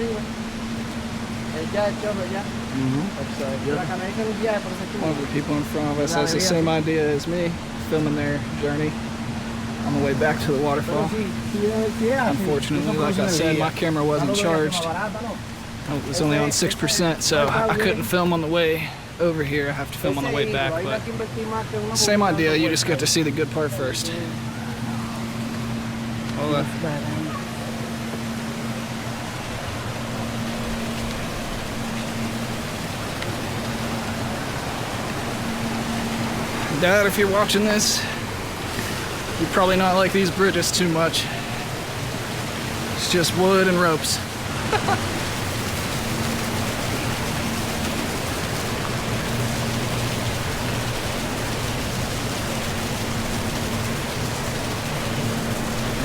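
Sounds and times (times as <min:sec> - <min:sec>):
faint steady hum: 0:00.0 - 0:56.0
fast-flowing river water: 0:00.0 - 0:56.0.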